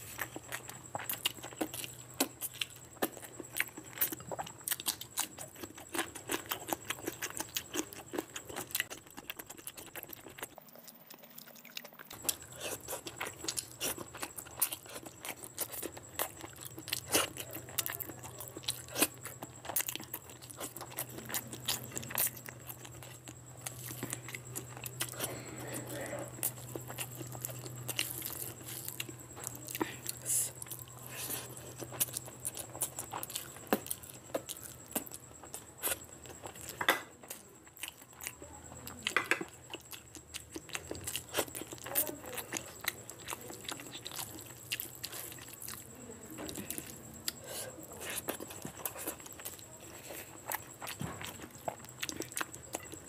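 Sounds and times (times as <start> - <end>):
faint steady hum: 0.0 - 53.0
wet chewing and lip-smacking: 0.0 - 53.0.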